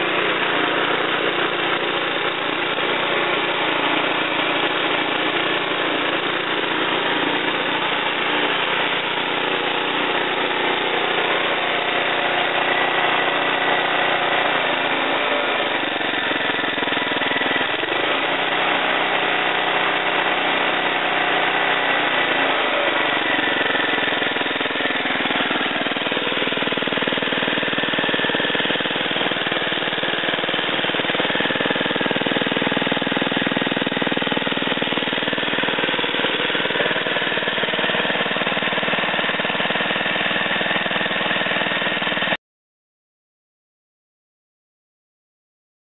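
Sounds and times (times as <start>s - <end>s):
small lawn-mower engine running: 0.0s - 42.4s.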